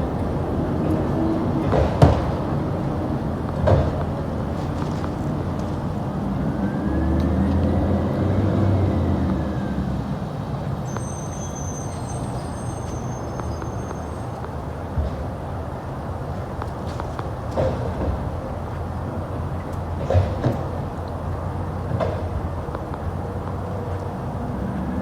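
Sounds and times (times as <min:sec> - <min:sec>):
garbage truck diesel engine: 0:00.0 - 0:25.0.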